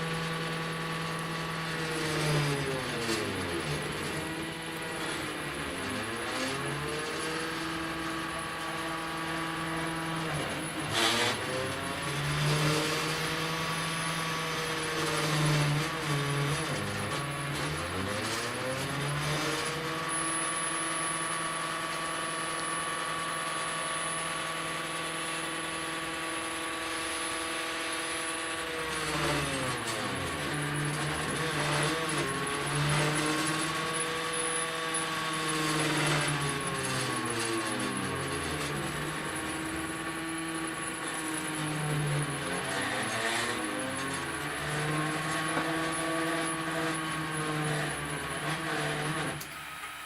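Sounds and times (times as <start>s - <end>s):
stepper motors whining: 0.0s - 50.0s.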